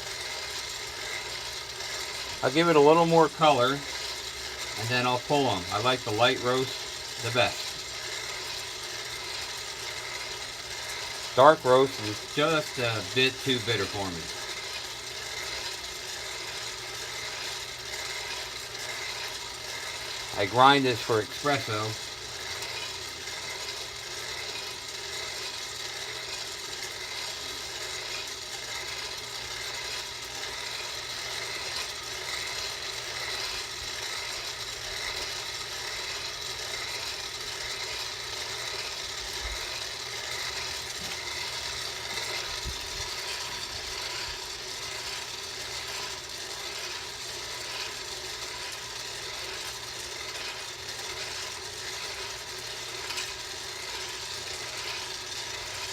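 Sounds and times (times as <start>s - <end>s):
beans rattling: 0.0s - 55.9s
coffee roaster motor whirring: 0.0s - 55.9s.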